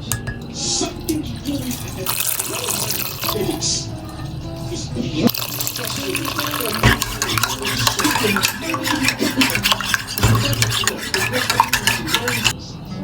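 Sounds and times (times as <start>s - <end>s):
metal spoon scraping a dish: 0.0s - 12.6s.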